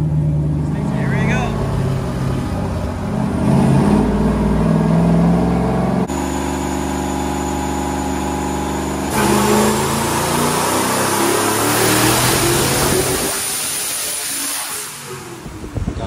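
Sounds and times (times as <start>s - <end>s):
car engine running on a dyno: 0.0s - 16.0s.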